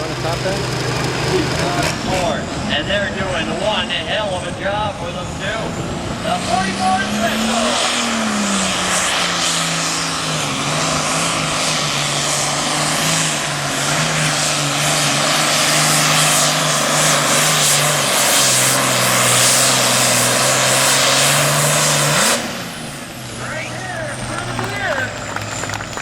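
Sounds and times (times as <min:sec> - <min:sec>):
diesel engine under full load: 0:00.0 - 0:26.0.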